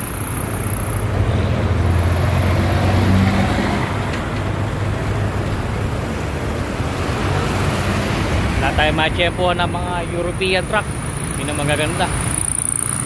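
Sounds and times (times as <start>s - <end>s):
heavy vehicle engine drone: 0.0s - 13.0s
tyre and road noise: 0.0s - 13.0s.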